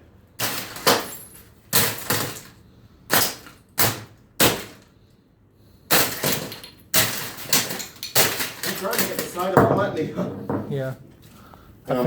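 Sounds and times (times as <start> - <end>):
heavy blows smashing fan housing: 0.4 - 5.0, 5.8 - 10.8.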